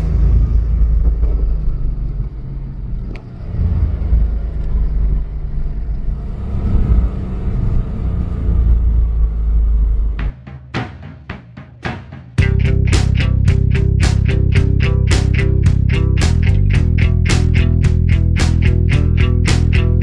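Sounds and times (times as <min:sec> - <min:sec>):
car engines rumbling: 0:00.0 - 0:10.3, 0:12.4 - 0:20.0.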